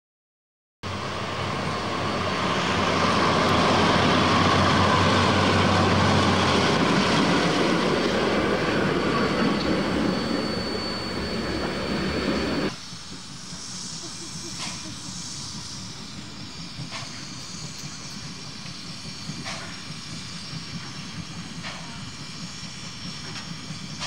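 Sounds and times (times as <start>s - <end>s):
diesel locomotive passing at speed: 0.8s - 24.0s.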